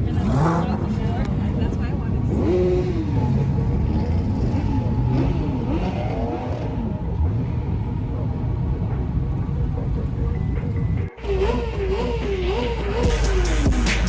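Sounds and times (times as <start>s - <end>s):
car engines revving: 0.0s - 14.0s
low engine drone: 0.0s - 14.0s.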